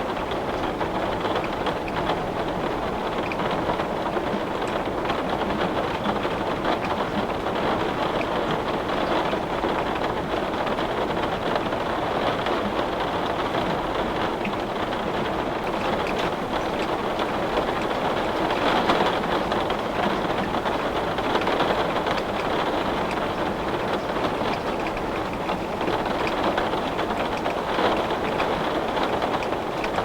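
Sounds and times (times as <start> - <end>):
heavy rain on window glass: 0.0 - 30.0.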